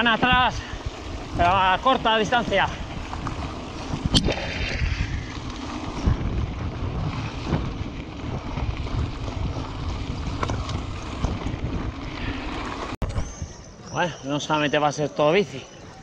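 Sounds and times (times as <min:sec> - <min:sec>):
wind rumbling on microphone: 0:00.0 - 0:13.9
bike tyres on gravel: 0:00.0 - 0:16.0.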